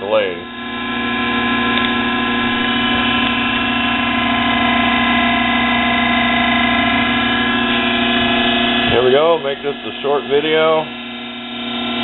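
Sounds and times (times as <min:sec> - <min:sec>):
lathe motor humming and whining: 0:00.0 - 0:12.0.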